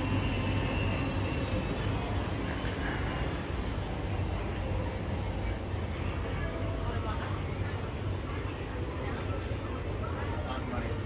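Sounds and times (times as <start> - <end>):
background store noise: 0.0 - 11.0.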